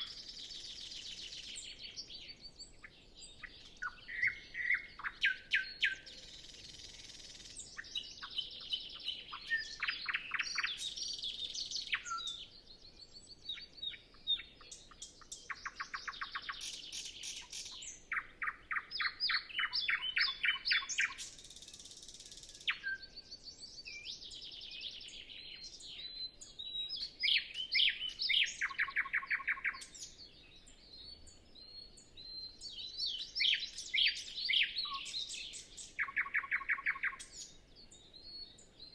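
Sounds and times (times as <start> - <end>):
nightingale singing: 0.0 - 38.9.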